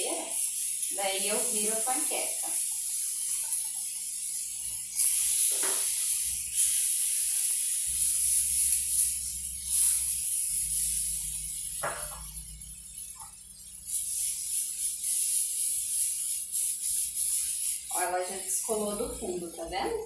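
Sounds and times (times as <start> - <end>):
pancake batter sizzling in oil: 0.0 - 20.0.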